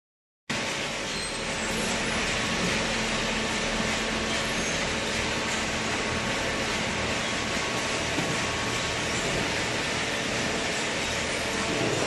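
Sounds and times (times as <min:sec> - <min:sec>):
industrial machinery running: 0:00.5 - 0:12.0.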